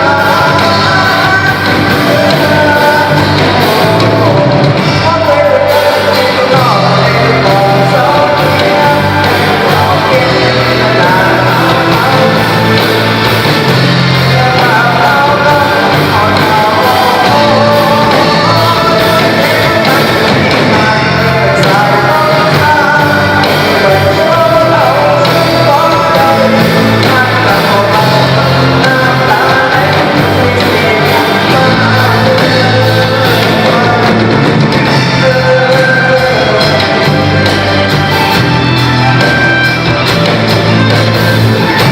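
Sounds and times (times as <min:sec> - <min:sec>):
band playing rock music: 0:00.0 - 0:41.9
person singing: 0:00.0 - 0:41.9.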